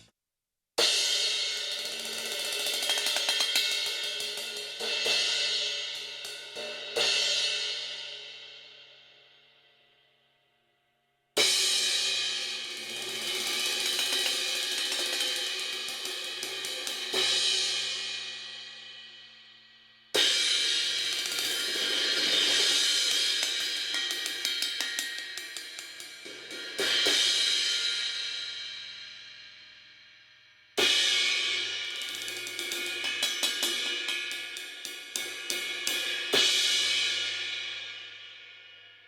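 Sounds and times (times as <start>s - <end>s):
crash cymbal struck with sticks: 0.8s - 8.5s, 11.4s - 39.0s.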